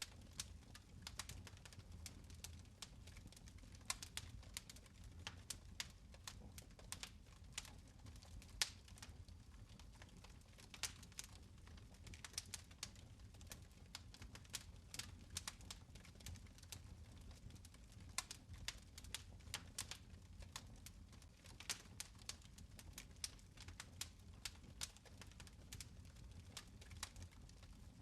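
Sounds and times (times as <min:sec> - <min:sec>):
fire crackling in a fireplace: 0:00.0 - 0:28.0.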